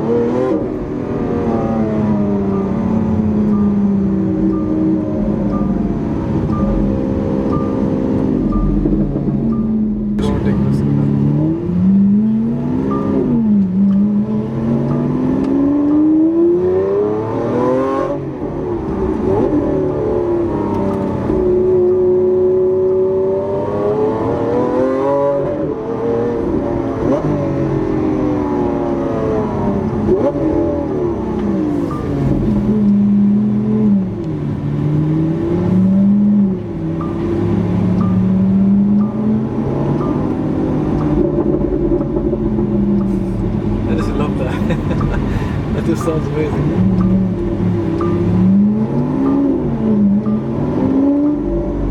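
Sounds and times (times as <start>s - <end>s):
car engine accelerating: 0.0s - 51.9s
throttle blips: 0.1s - 51.9s.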